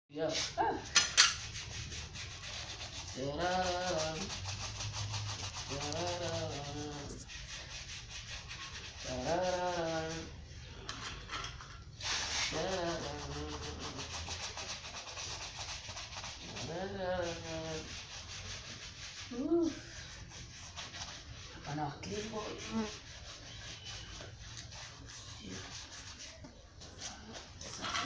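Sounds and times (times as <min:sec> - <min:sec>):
brush rubbing leather shoe: 0:01.2 - 0:10.5, 0:12.0 - 0:28.0.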